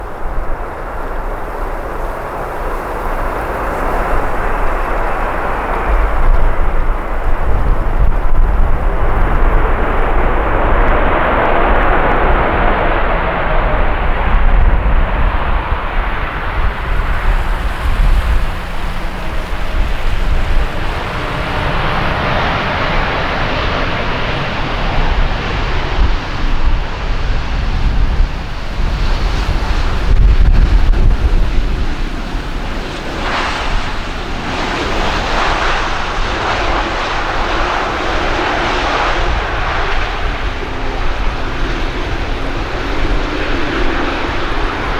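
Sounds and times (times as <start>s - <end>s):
jet airliner rumble and roar: 0.0s - 44.9s
wind buffeting microphone: 0.0s - 44.9s.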